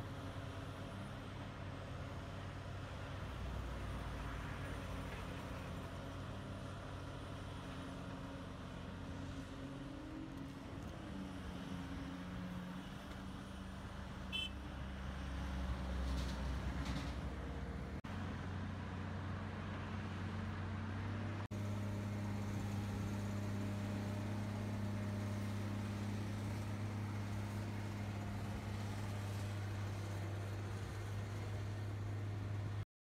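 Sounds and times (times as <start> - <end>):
vehicle engine humming: 3.1 - 32.8.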